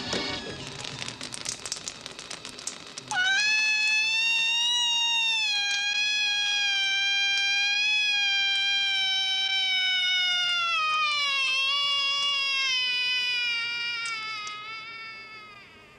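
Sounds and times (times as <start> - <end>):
crackling clicks: 0.0 - 15.9
high-pitched scream: 3.0 - 15.9.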